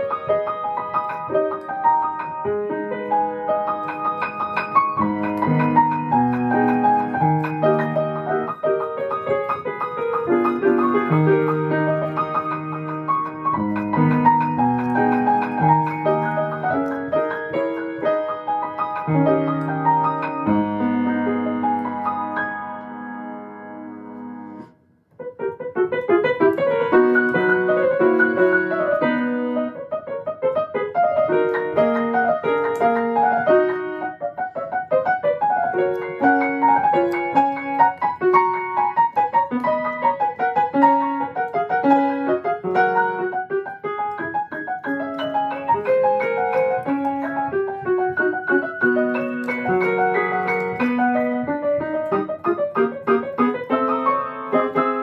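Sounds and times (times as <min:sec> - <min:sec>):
grand piano fast runs: 0:00.0 - 0:23.8, 0:24.5 - 0:55.0.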